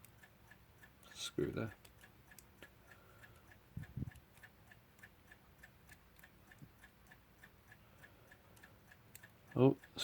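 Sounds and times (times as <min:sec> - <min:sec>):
mechanical clock ticking: 0:00.0 - 0:10.0.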